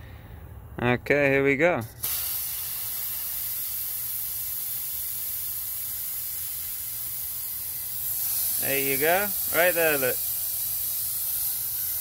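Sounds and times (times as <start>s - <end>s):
compressed air hissing: 1.8s - 12.0s.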